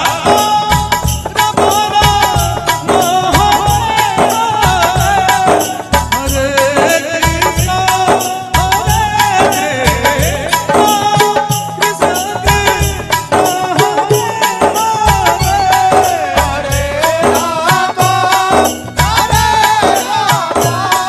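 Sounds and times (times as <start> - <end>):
drum steady beat: 0.0 - 21.0
electronic keyboard: 0.0 - 21.0
man singing into microphone: 0.0 - 21.0.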